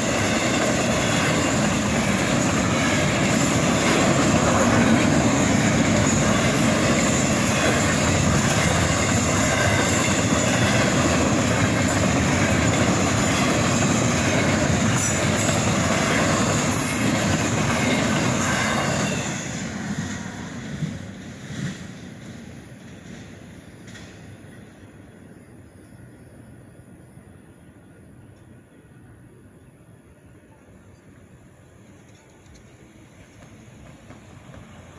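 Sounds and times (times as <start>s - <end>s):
steel wheels on rail: 0.0s - 29.4s, 30.2s - 34.9s.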